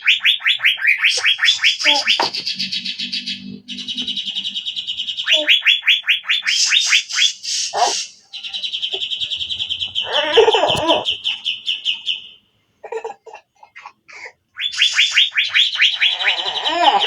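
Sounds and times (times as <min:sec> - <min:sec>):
bird calling in sharp notes: 0:00.0 - 0:12.5, 0:14.5 - 0:17.0.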